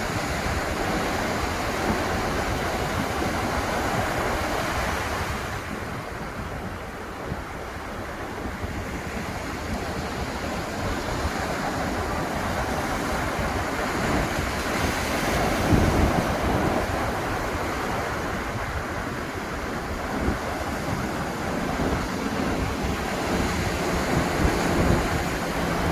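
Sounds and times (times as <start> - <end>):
surf washing onto beach: 0.0 - 25.9
wind buffeting microphone: 0.0 - 25.9.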